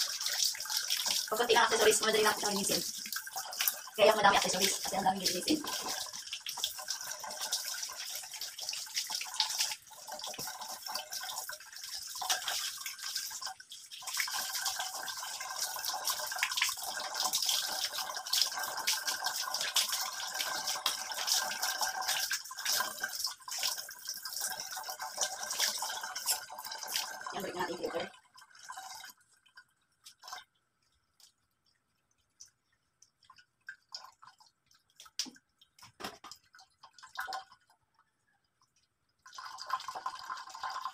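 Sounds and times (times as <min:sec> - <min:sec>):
tap water running: 0:00.0 - 0:40.9.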